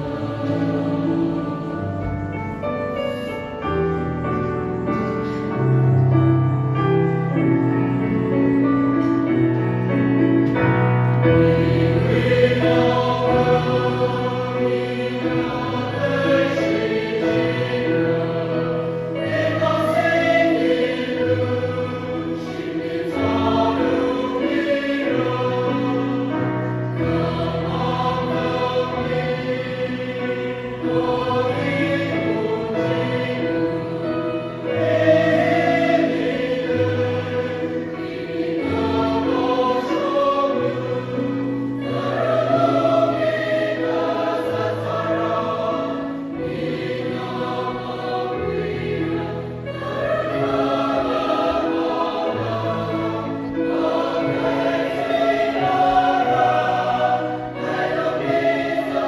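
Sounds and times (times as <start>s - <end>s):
mixed choir singing a hymn: 0.0s - 59.0s.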